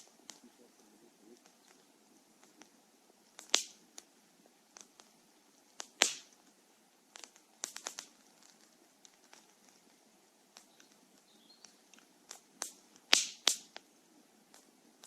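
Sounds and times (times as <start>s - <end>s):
loud sharp pops: 0.0s - 13.9s, 14.5s - 15.0s
faint hiss of fire: 0.0s - 15.0s
firewood crackling: 0.0s - 15.0s.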